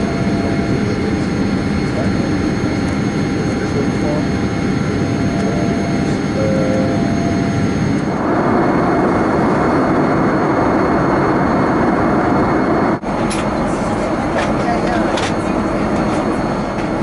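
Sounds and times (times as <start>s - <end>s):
jet engine and airflow noise: 0.0s - 17.0s.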